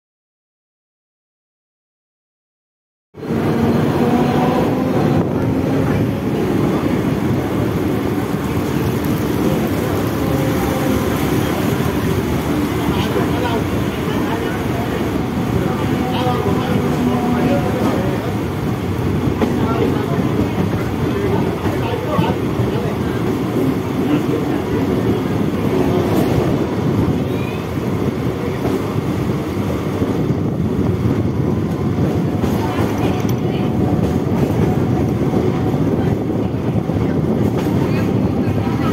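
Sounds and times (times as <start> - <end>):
train wheels rumbling on rails: 3.2 - 38.9
wind buffeting microphone: 3.2 - 38.9.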